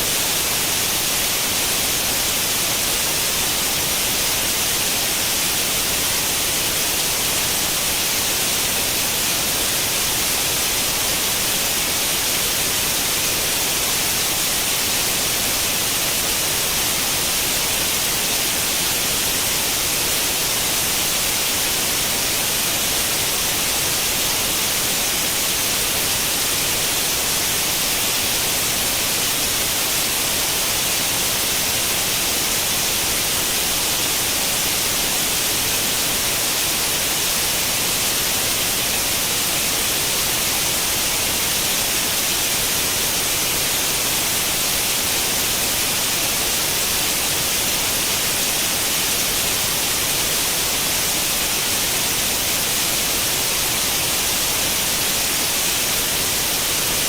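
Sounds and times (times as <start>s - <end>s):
television static hiss: 0.0s - 57.0s.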